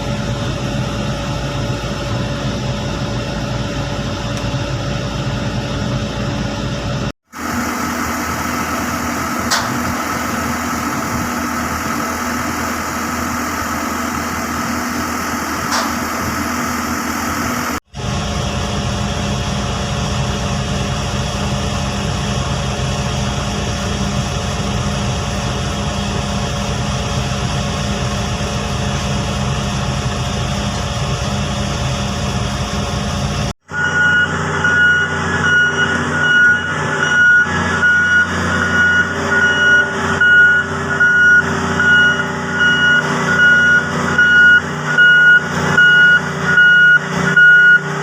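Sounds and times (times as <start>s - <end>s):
heavy machine engine idling: 0.0s - 48.0s.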